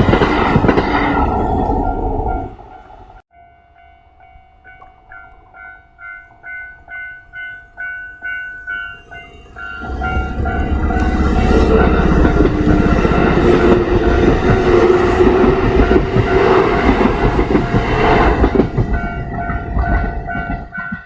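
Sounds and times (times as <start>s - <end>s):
electric train passing: 0.0s - 3.2s, 4.1s - 21.0s
crossing warning bell: 1.4s - 21.0s.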